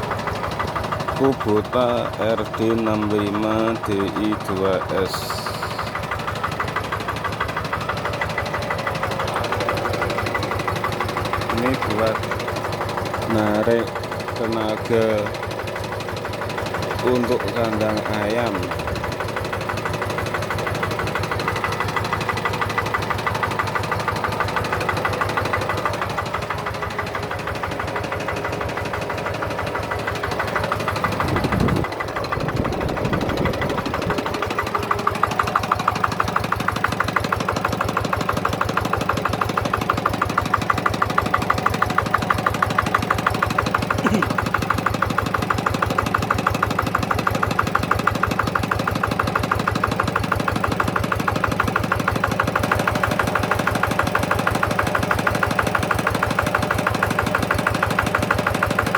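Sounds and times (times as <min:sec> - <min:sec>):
diesel engine knocking: 0:00.0 - 0:58.9.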